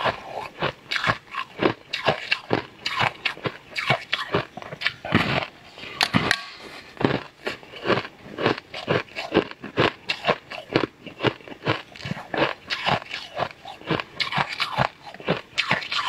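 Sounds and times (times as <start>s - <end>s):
crunching hard candy: 0.0s - 6.3s, 7.0s - 16.0s.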